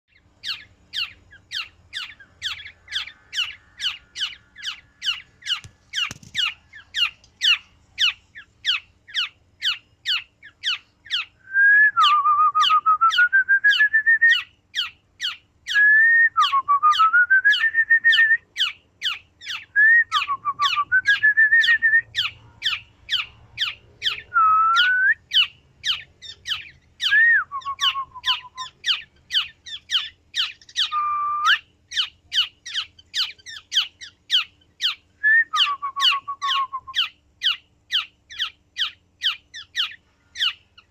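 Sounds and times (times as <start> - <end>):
bird fluty whistled trill: 0.1 - 40.6.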